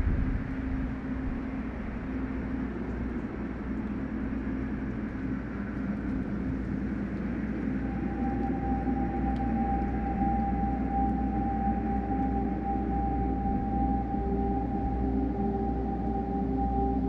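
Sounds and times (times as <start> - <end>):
humming drone: 0.0 - 17.0
low machine rumble: 0.0 - 17.0.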